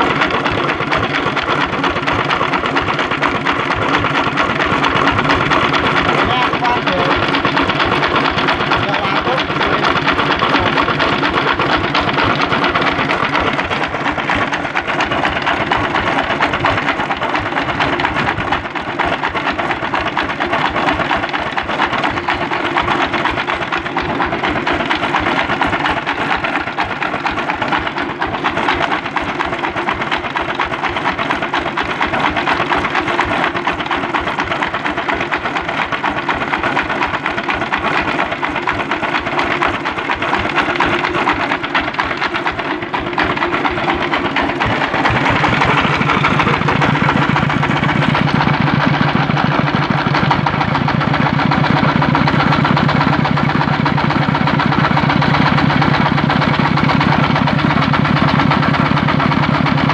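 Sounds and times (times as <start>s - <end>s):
diesel engine clattering: 0.0s - 59.9s.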